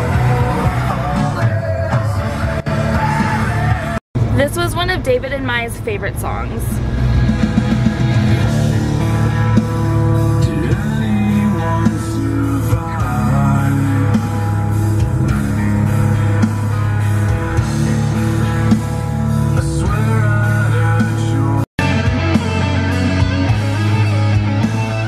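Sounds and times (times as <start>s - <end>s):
rock song with guitar and singing: 0.0s - 4.0s, 6.8s - 25.0s.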